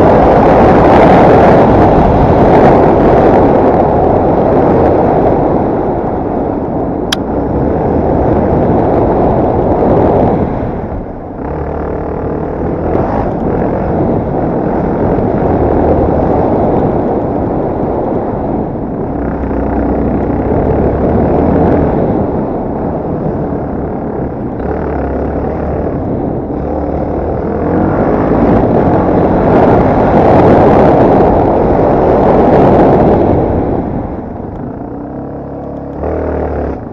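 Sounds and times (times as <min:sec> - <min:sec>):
motorcycle engine running: 0:00.0 - 0:36.9
wind noise on microphone: 0:00.0 - 0:36.9.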